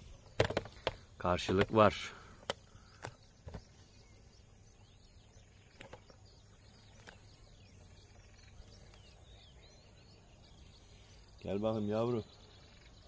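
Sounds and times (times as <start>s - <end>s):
distant birds chirping: 0.0s - 13.0s.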